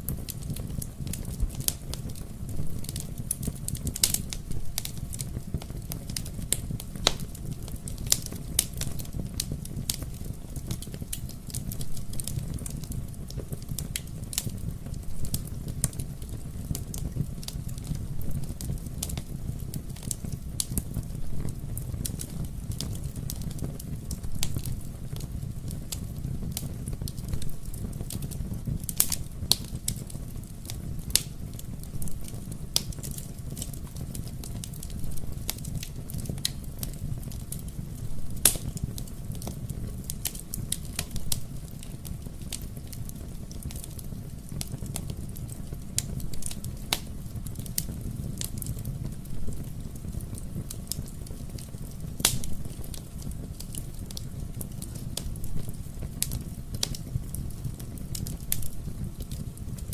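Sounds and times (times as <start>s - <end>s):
wood fire crackling in fireplace: 0.0s - 59.9s.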